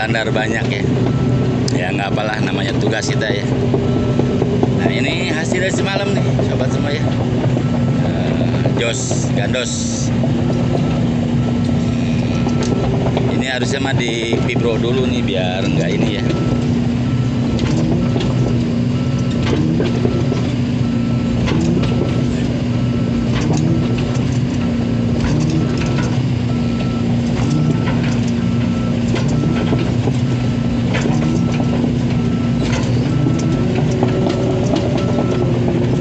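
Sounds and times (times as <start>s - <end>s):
faint travel alarm beeps: 0.0s - 24.2s, 24.8s - 36.0s
diesel engine running: 0.0s - 36.0s
steel tracks clanking: 1.8s - 36.0s.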